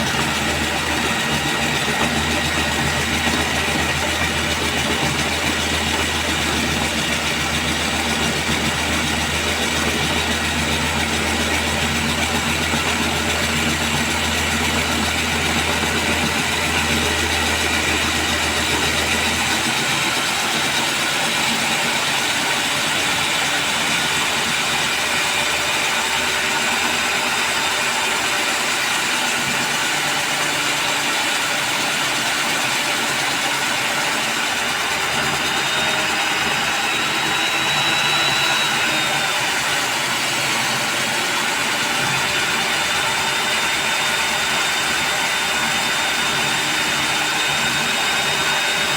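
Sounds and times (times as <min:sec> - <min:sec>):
concrete core drill running: 0:00.0 - 0:48.9.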